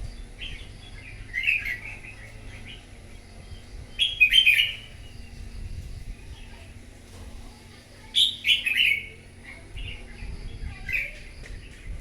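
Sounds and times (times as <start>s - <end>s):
bird singing warbled phrases: 0.0s - 6.9s, 7.6s - 12.0s.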